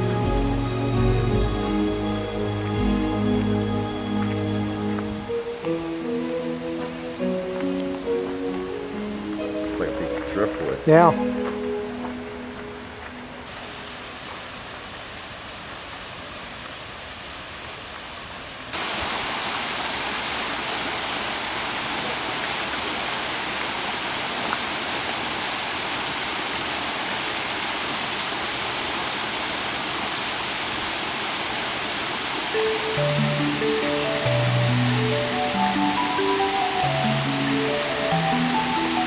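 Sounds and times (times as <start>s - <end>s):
running water rushing: 0.0s - 39.0s.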